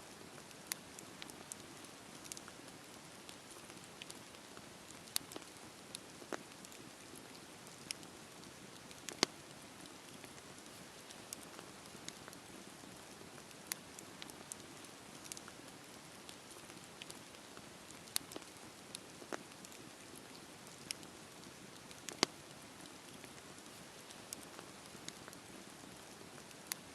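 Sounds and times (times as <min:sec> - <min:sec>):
campfire crackling and popping: 0:00.2 - 0:26.9.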